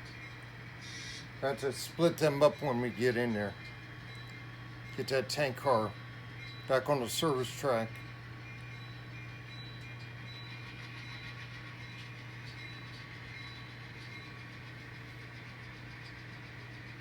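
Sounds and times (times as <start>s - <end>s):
simulated diesel engine drone: 0.0s - 17.0s.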